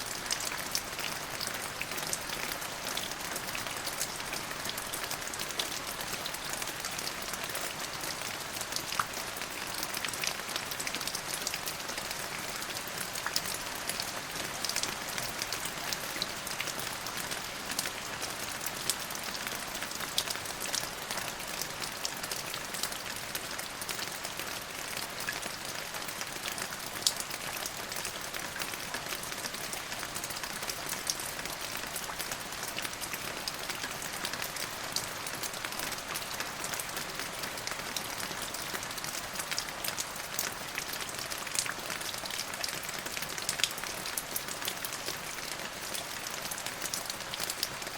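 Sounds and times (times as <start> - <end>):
rain on a hard surface: 0.0 - 47.9.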